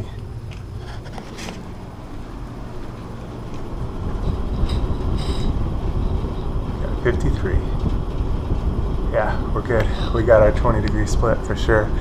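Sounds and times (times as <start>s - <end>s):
air rushing from vent: 0.0s - 12.0s.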